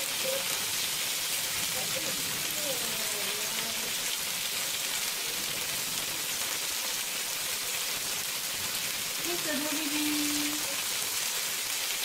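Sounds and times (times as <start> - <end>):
prawns sizzling in a wok: 0.0 - 12.0.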